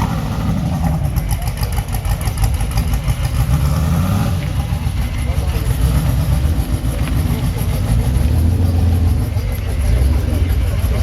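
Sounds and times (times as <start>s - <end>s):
race car engine rumbling: 0.0s - 11.0s.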